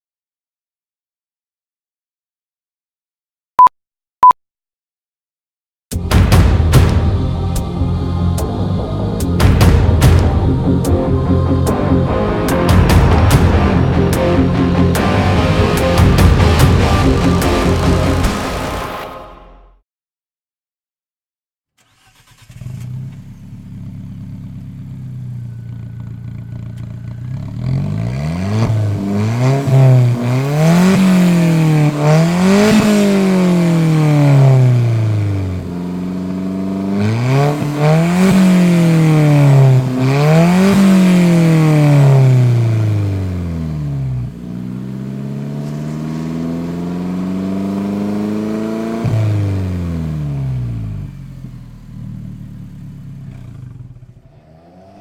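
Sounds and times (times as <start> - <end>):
car engine revving: 5.9 - 19.3, 21.8 - 55.0.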